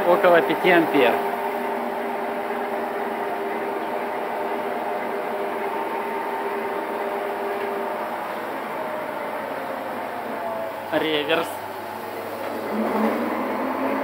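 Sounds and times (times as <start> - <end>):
lathe motor humming: 0.0 - 14.0.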